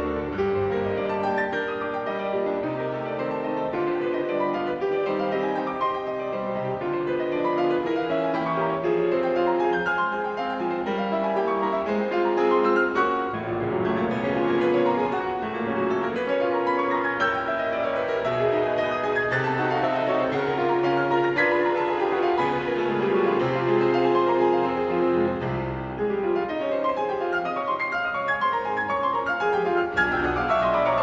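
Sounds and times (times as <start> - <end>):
piano piece: 0.0 - 31.0.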